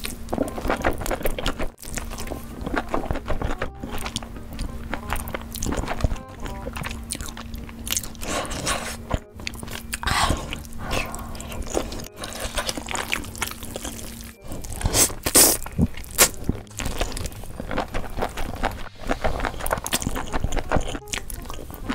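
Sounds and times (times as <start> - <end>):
faint background music: 0.0 - 21.9
wet chewing: 0.0 - 21.9
mouth clicks: 0.6 - 21.4.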